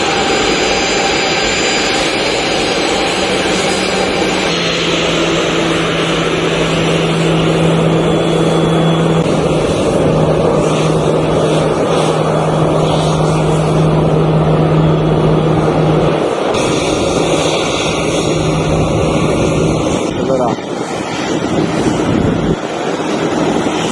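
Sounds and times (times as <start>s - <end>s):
aircraft engines droning: 0.0s - 23.9s.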